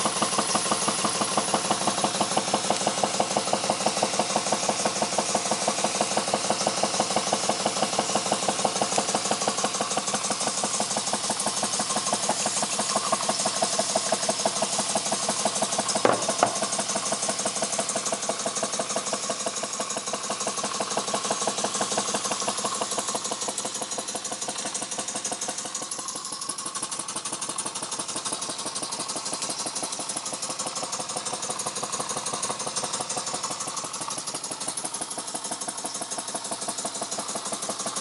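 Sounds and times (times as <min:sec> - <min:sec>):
steam engine running fast: 0:00.0 - 0:38.0.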